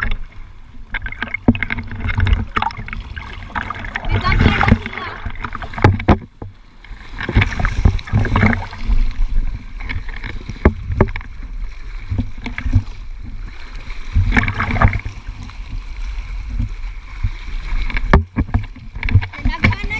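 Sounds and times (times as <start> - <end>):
waves splashing over rocks: 0.0 - 19.9.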